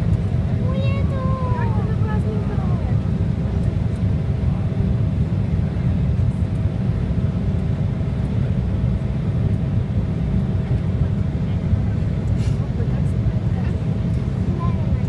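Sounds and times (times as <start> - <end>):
airliner engines rumbling: 0.0 - 15.0.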